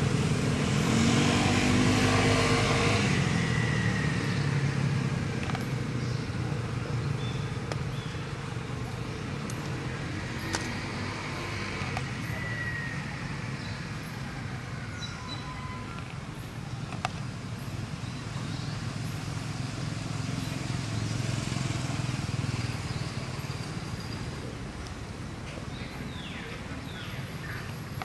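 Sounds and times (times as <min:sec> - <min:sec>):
distant road traffic rumble: 0:00.0 - 0:28.0.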